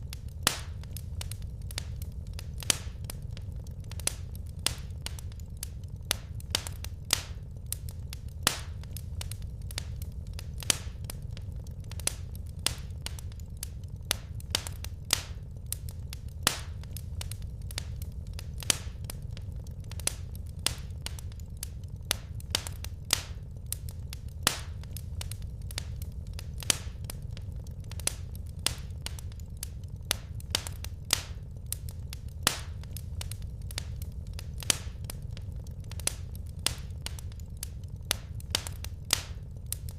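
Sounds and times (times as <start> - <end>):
fire crackling and popping: 0.0 - 39.9
low rumble of burning logs: 0.0 - 39.9.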